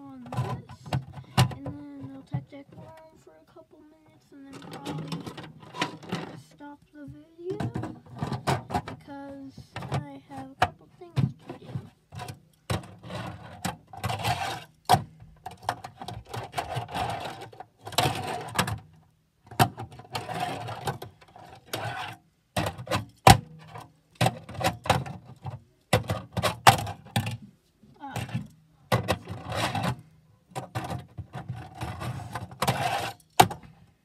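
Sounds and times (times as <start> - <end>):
plastic clicking and clacking: 0.0 - 3.2, 4.4 - 27.5, 28.2 - 33.8
rattly plastic scraping: 0.0 - 3.2, 4.4 - 33.8.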